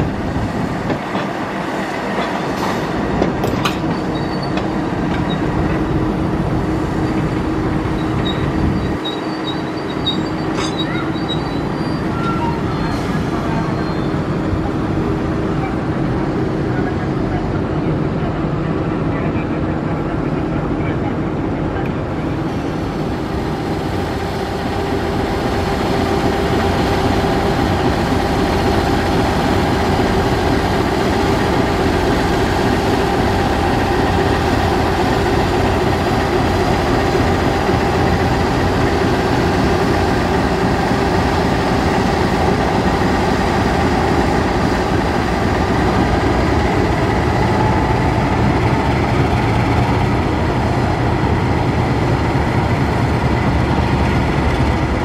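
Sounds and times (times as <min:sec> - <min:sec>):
diesel locomotive engine drone: 0:00.0 - 0:55.0
passenger coaches rolling: 0:00.0 - 0:55.0.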